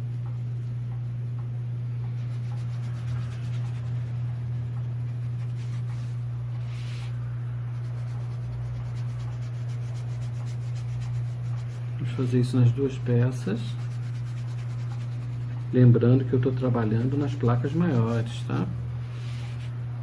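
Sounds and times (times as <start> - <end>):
steady low hum: 0.0 - 20.0
brush scrubbing on board: 2.0 - 18.5, 19.1 - 19.8.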